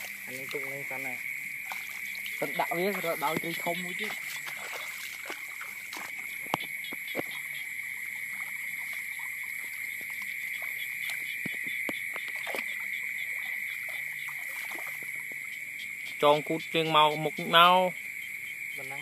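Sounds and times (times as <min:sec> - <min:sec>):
water sloshing: 0:00.0 - 0:18.4
frogs and insects chorus: 0:00.0 - 0:19.0.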